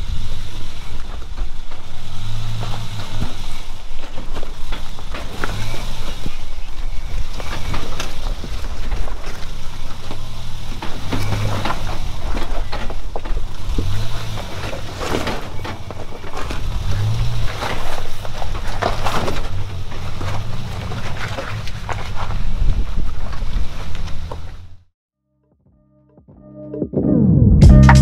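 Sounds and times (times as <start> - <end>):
knocks and rattles: 0.0 - 24.7
vehicle engine running low: 0.0 - 24.9.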